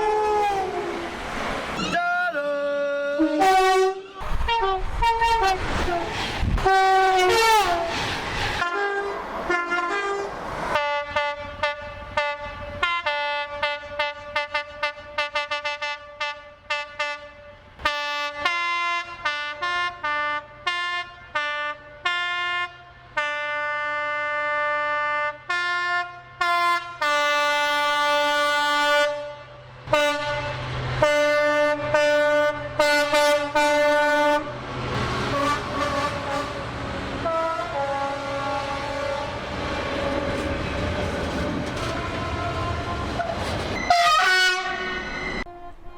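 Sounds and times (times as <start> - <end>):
two-tone train horn: 0.0 - 1.1, 2.0 - 8.0, 8.6 - 45.9.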